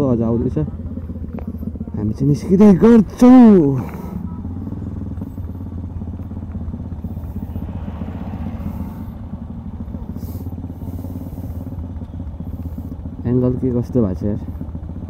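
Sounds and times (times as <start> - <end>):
motorcycles idling: 0.0 - 15.0.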